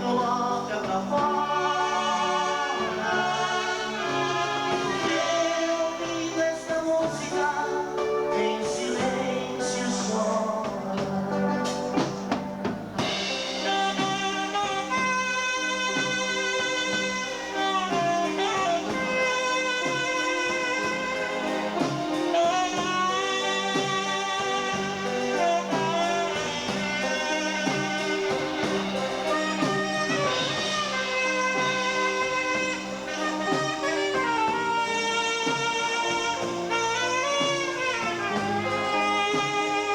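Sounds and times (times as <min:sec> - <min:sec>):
drum and cymbal hits: 0:00.0 - 0:39.9
live band playing slow song: 0:00.0 - 0:39.9.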